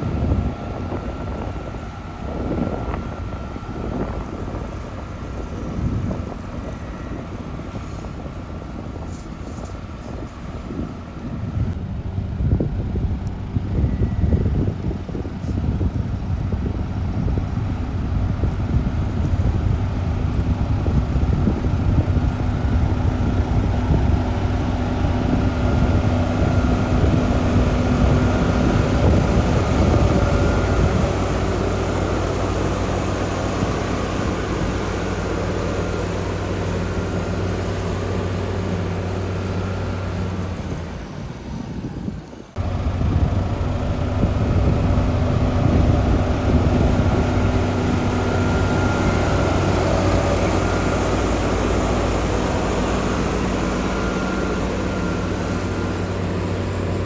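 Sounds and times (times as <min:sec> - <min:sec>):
heavy diesel machinery droning: 0:00.0 - 0:57.0.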